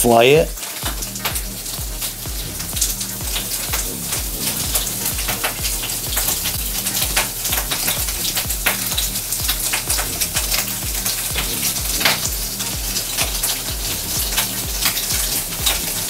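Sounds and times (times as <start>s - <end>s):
background music with steady beat: 0.0s - 16.0s
fat sizzling and crackling: 0.0s - 16.0s.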